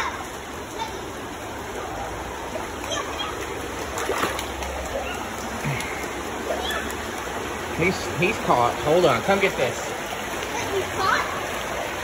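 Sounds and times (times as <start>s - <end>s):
river water flowing: 0.0s - 12.0s
water splash: 1.5s - 12.0s.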